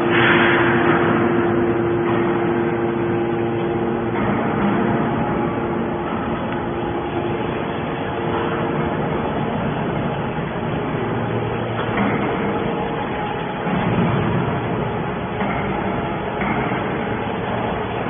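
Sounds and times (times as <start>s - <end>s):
scrap baler machine running: 0.0s - 18.0s.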